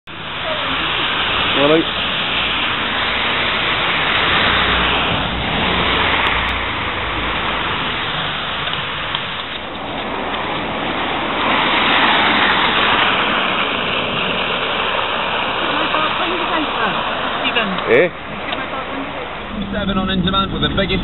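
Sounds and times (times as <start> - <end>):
wind buffeting microphone: 0.1 - 21.0.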